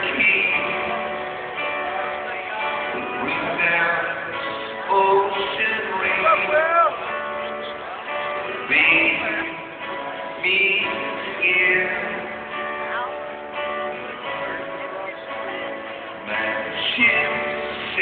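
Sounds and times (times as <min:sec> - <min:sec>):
live rock band music: 0:00.0 - 0:18.0
strummed guitar: 0:00.0 - 0:18.0.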